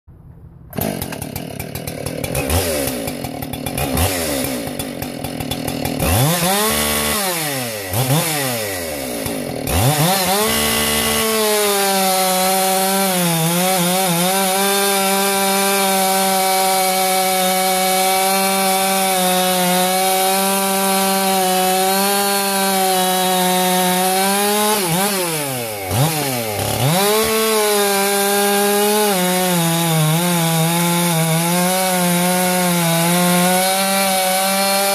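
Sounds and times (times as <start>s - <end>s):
chainsaw revving and cutting wood: 0.7s - 34.9s.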